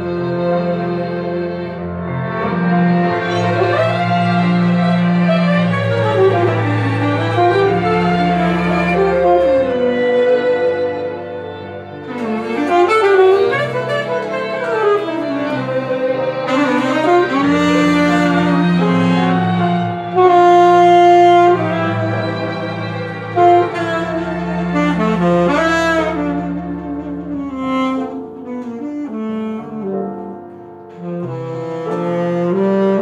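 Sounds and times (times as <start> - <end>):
string and bass accompaniment: 0.0 - 33.0
saxophone playing slow melody: 1.7 - 33.0.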